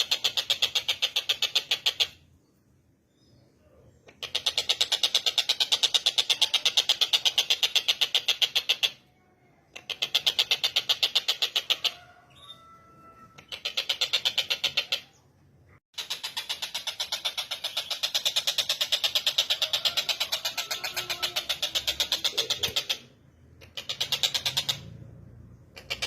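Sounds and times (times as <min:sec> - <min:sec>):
bird chattering: 0:00.0 - 0:02.6, 0:03.2 - 0:12.7, 0:13.4 - 0:26.0.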